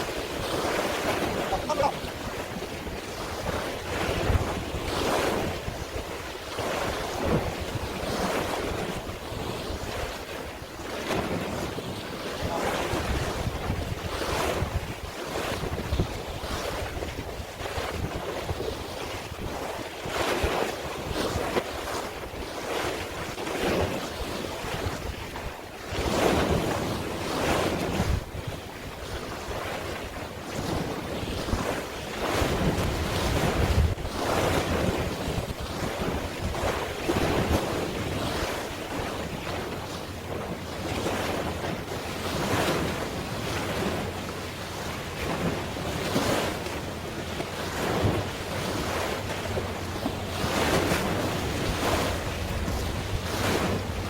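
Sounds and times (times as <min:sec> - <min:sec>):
waves washing: 0:00.0 - 0:54.0
wind buffeting microphone: 0:00.0 - 0:54.0.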